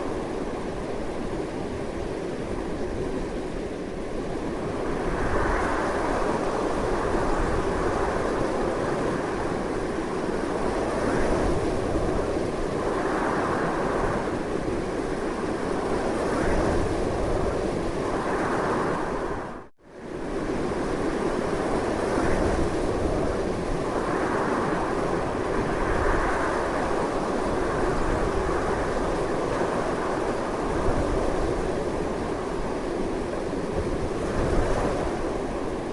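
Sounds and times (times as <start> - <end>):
strong wind blowing: 0.0 - 35.9.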